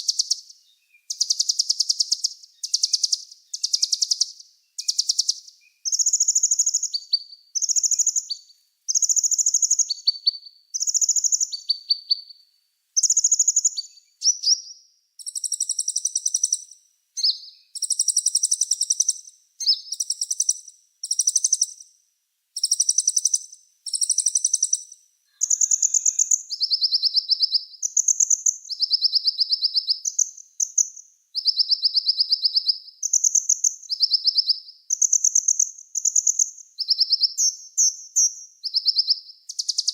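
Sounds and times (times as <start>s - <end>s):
songbird trilling: 0.0s - 12.3s, 13.0s - 21.9s, 22.6s - 39.9s.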